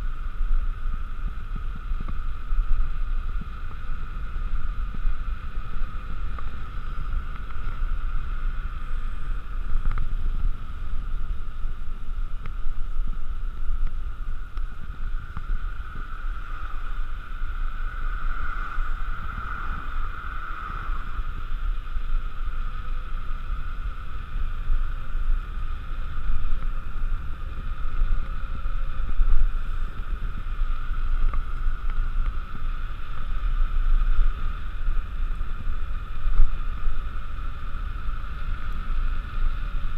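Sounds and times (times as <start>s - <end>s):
bike tyres rolling on asphalt: 0.0s - 39.9s
wind rushing over microphone: 0.0s - 39.9s.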